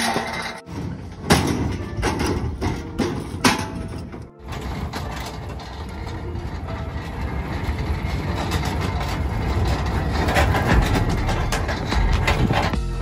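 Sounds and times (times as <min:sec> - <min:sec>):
pallet jack wheels rumbling on asphalt: 0:00.0 - 0:13.0.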